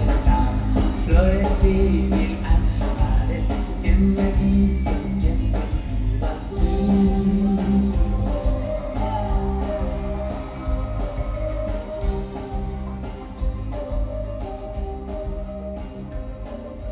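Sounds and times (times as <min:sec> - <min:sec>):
music with guitar and bass: 0:00.0 - 0:16.9.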